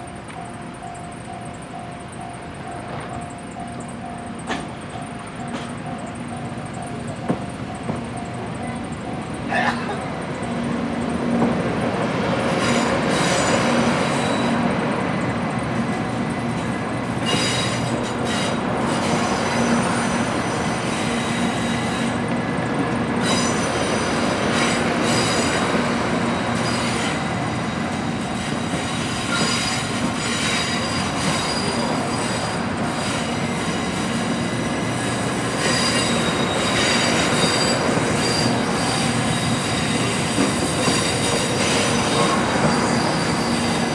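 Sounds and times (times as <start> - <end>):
rolling rail noise: 0.0 - 43.9
train wheels squealing: 0.0 - 43.9.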